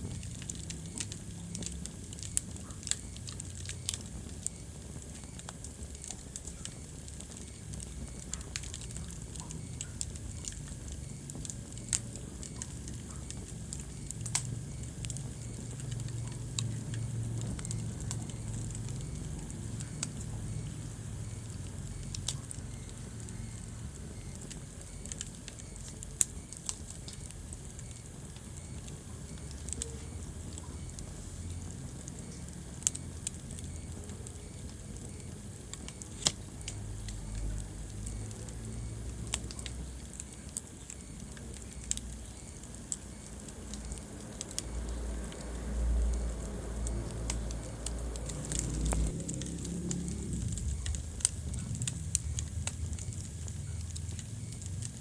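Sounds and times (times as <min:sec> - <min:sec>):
fire crackles and pops: 0:00.0 - 0:55.0
low rumble of flames: 0:00.0 - 0:55.0.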